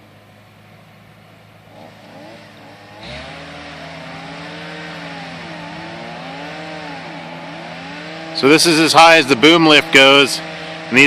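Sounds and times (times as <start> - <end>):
engines droning: 0.0 - 11.0
engine revving: 1.7 - 11.0.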